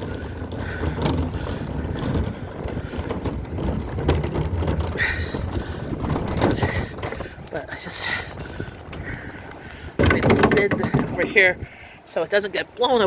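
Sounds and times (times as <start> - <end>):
wind gusting on microphone: 0.0 - 13.0.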